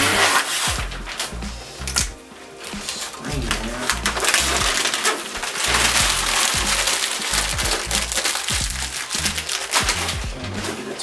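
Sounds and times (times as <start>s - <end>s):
background music with bass line: 0.0s - 11.0s
plastic wrap rustling and crinkling: 0.0s - 11.0s.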